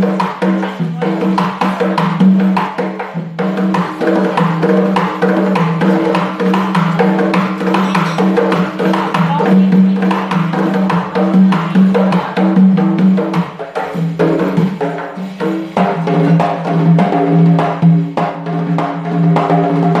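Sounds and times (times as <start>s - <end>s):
frame drums playing: 0.0s - 20.0s.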